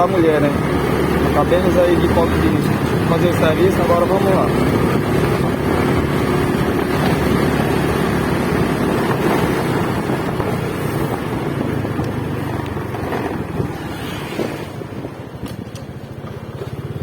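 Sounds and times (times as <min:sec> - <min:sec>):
motorcycle engine running: 0:00.0 - 0:17.0
wind on microphone: 0:00.0 - 0:17.0.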